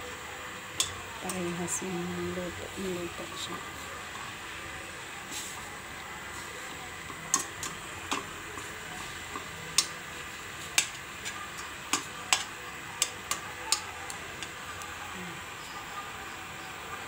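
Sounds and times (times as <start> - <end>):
liquid bubbling in a pan: 0.1 - 17.0.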